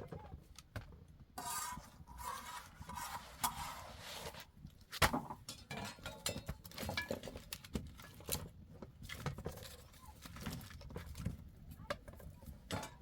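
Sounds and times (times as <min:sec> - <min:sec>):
hands working with utensils: 0:01.4 - 0:13.0.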